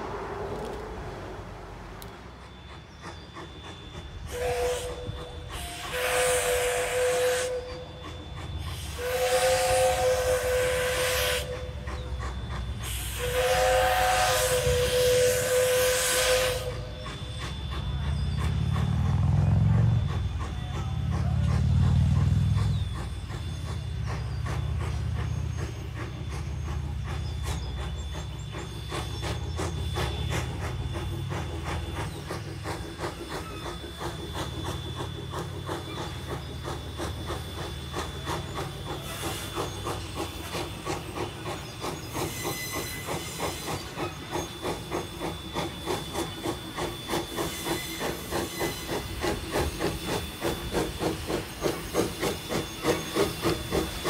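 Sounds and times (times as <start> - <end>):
hissing steam: 0.0 - 54.0
steam locomotive chuffing: 0.0 - 54.0.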